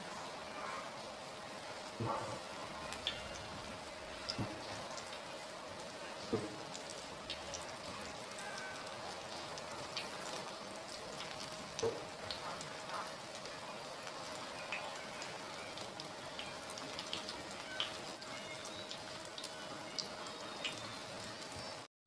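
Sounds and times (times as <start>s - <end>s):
hot oil sizzling and popping: 0.0s - 21.9s.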